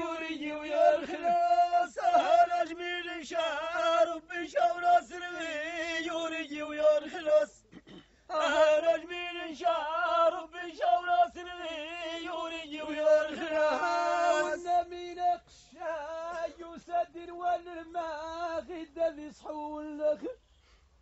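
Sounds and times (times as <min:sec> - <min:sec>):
man chanting poetry: 0:00.0 - 0:07.6, 0:08.3 - 0:20.3.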